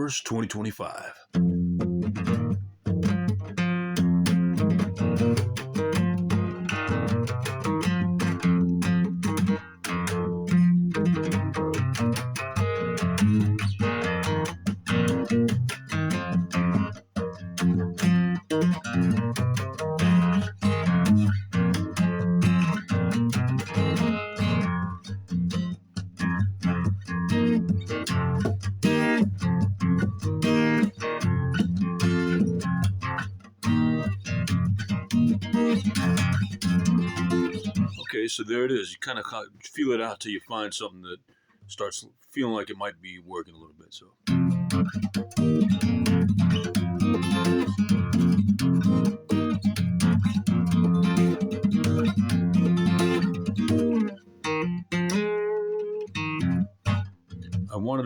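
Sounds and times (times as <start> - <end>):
acoustic guitar picking: 0.0 - 38.1, 44.2 - 58.0.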